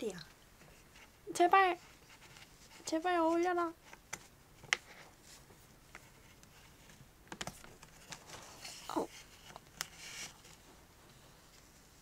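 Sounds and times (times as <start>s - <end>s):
soft rustling: 0.1s - 12.0s.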